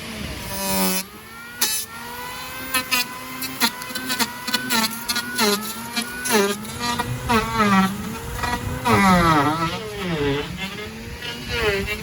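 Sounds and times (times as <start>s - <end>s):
power tool motor running: 0.0s - 12.0s.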